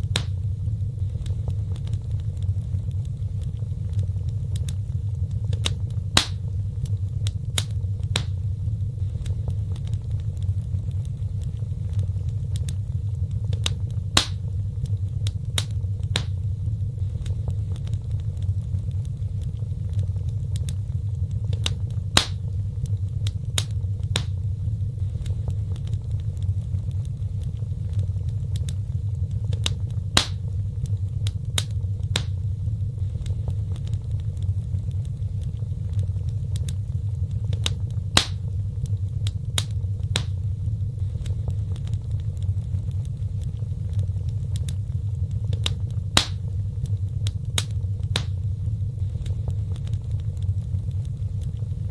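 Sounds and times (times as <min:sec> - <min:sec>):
fire rumbling: 0:00.0 - 0:51.9
wood fire popping and snapping: 0:00.0 - 0:51.9.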